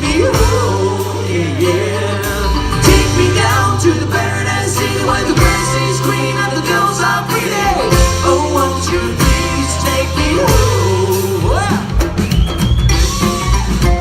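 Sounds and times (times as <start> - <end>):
person singing: 0.0 - 12.2
band playing rock: 0.0 - 14.0
bass and drum beat: 0.0 - 14.0.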